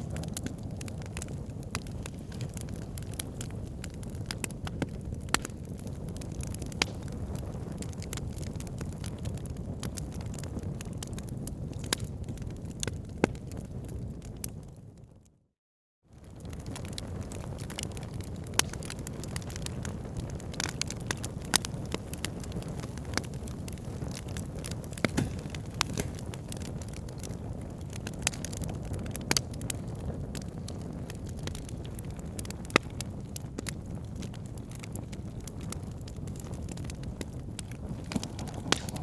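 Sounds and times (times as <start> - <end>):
wood fire crackling: 0.0 - 14.7, 16.2 - 39.0.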